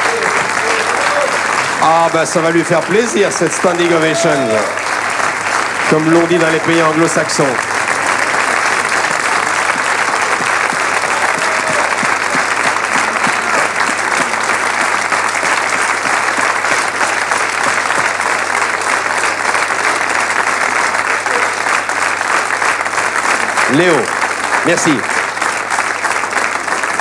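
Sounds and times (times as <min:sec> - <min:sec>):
audience applause: 0:00.0 - 0:27.0.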